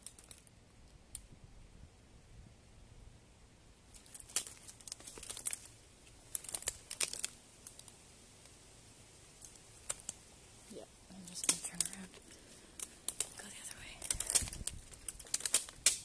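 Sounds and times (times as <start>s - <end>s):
dry leaves and twigs crackling: 0.0s - 1.3s, 3.8s - 16.0s.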